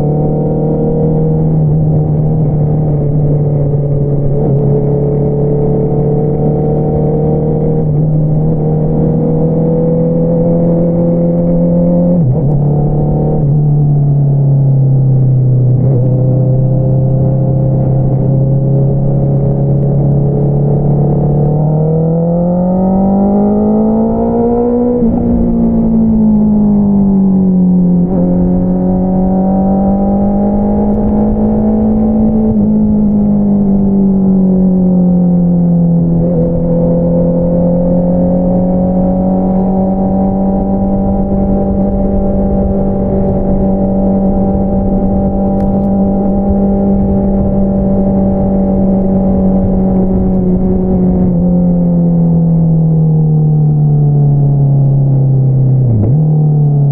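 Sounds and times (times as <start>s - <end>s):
motorcycle engine revving: 0.0s - 13.7s, 15.1s - 56.9s.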